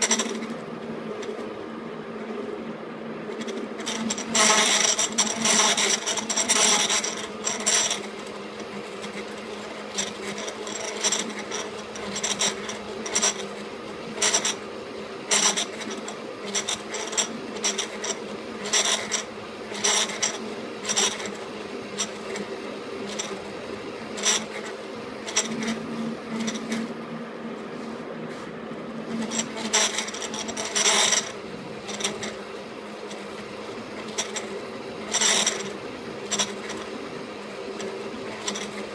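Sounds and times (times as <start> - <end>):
metal lathe gear hum: 0.0 - 38.9
scratchy ticks and scrapes: 0.0 - 38.9.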